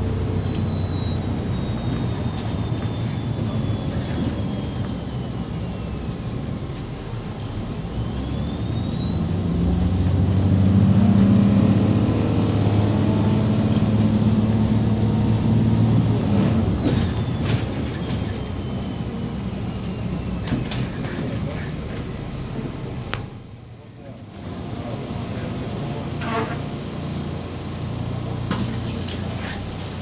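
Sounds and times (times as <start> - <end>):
high drivetrain whine: 0.0 - 23.6, 24.3 - 30.0
bus engine running: 0.0 - 30.0.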